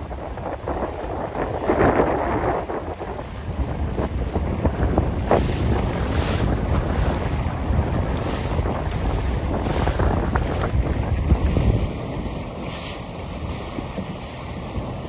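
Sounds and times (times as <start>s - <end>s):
choppy water splashing: 0.0s - 15.0s
wind buffeting microphone: 0.0s - 15.0s.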